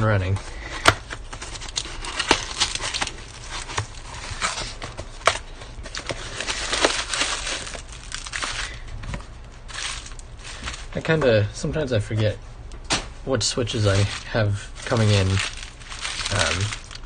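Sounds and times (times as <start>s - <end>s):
packaging rustling and crinkling: 0.2s - 11.4s, 13.6s - 17.0s.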